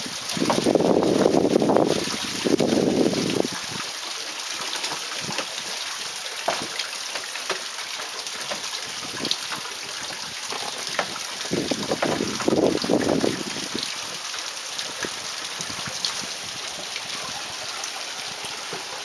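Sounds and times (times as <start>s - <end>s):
water trickling at water wheel: 0.0s - 19.0s.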